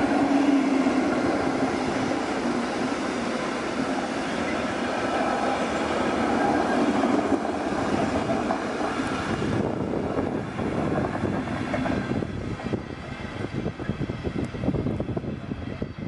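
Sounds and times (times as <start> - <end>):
freight train passing: 0.0 - 16.0.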